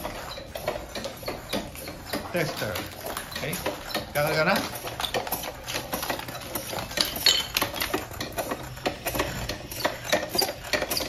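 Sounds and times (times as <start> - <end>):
hand pump clacking and knocking: 0.0 - 11.0.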